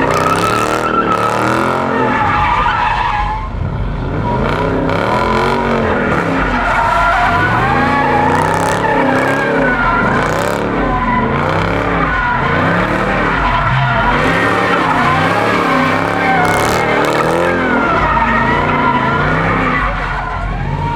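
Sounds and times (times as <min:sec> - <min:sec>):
tyres squealing: 0:00.0 - 0:03.5, 0:04.2 - 0:20.9
car engine revving: 0:00.0 - 0:20.9.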